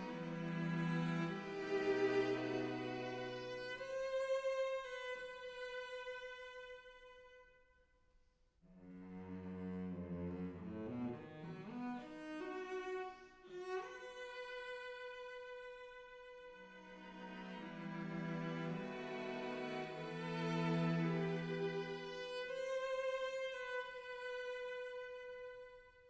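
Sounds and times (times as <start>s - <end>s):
slow bowed string music: 0.0s - 7.5s, 8.7s - 26.0s.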